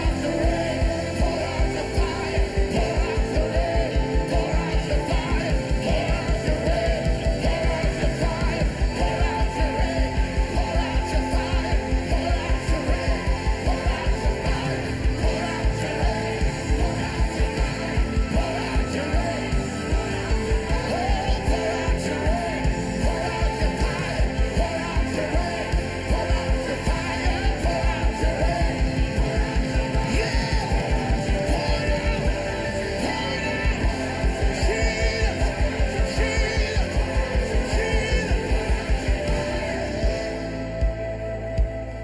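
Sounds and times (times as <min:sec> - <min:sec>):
rock band playing: 0:00.0 - 0:42.0
voices singing and shouting: 0:00.0 - 0:42.0.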